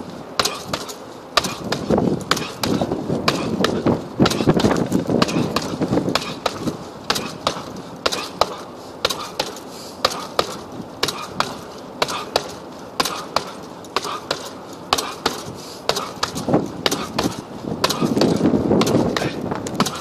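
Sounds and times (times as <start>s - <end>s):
fists hitting punching bag: 0.4s - 20.0s.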